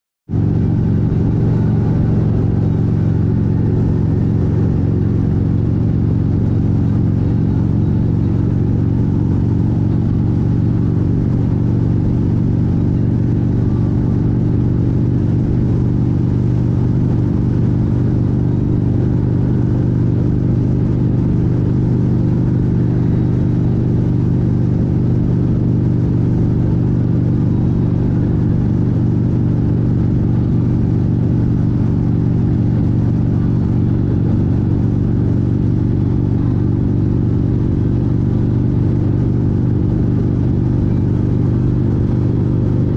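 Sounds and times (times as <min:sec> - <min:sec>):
motorcycle engine cruising: 0:00.3 - 0:42.9.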